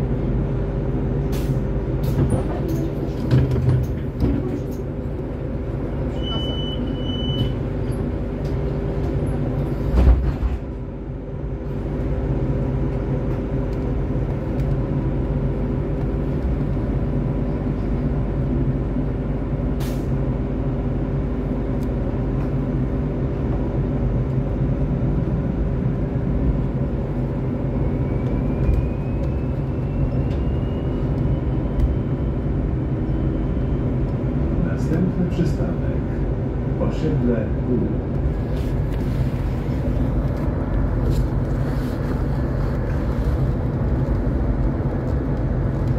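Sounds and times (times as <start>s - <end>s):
road noise: 0.0s - 45.9s.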